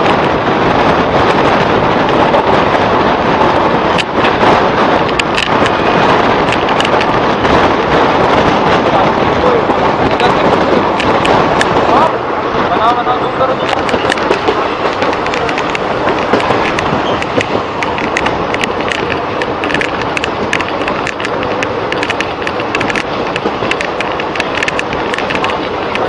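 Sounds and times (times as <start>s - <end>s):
train wheel and wind rush: 0.0s - 26.0s
wheels clacking on track: 0.0s - 26.0s.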